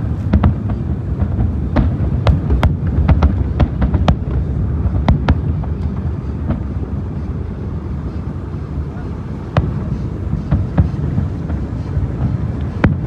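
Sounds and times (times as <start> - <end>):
fireworks bursting bangs: 0.0 - 8.2, 9.3 - 13.0
low rumble: 0.0 - 13.0.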